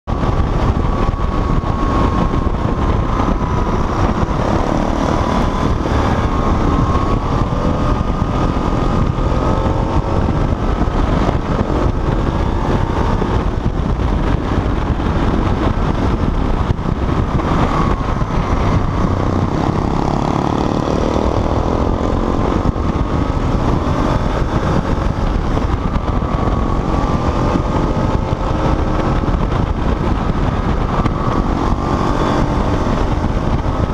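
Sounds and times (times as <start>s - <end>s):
motorcycle engine revving: 0.0s - 33.9s
wind rush on microphone: 0.0s - 33.9s.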